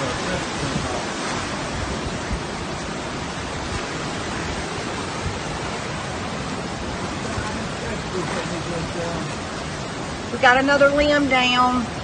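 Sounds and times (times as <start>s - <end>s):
choppy floodwater: 0.0s - 12.0s
hurricane wind rushing: 0.0s - 12.0s
wind buffeting microphone: 0.0s - 12.0s.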